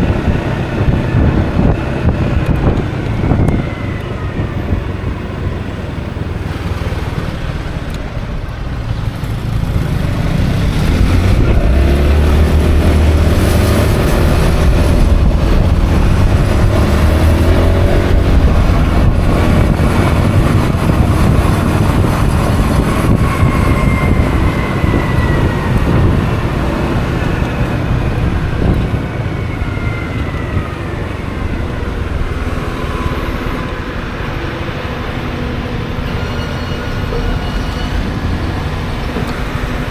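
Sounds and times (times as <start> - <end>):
scooter engine: 0.0 - 39.9
wind rushing over microphone: 0.0 - 39.9.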